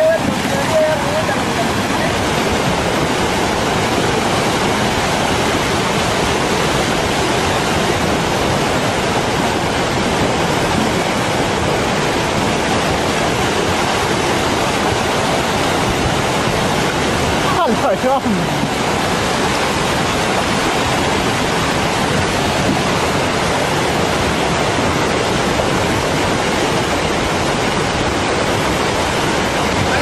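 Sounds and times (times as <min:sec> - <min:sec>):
muddy floodwater rushing: 0:00.0 - 0:30.0.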